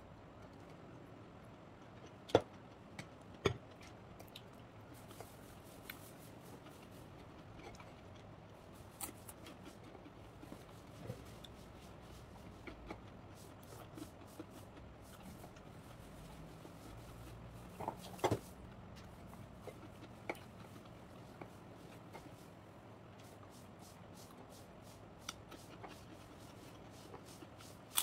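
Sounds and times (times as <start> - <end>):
chewing: 0.4 - 16.0, 16.9 - 22.5, 25.2 - 28.0.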